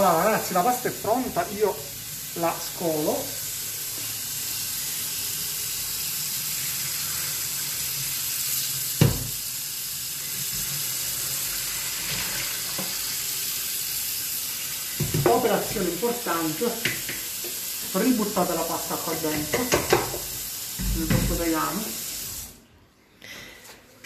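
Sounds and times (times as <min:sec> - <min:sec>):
water pouring into a sink: 0:00.0 - 0:22.6.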